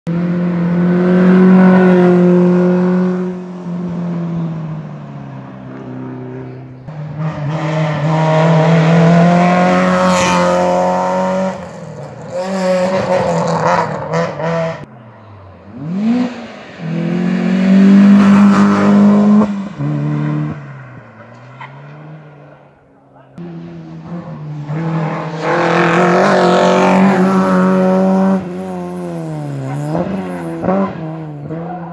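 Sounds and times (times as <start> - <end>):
rally cars racing past: 0.1 - 31.9.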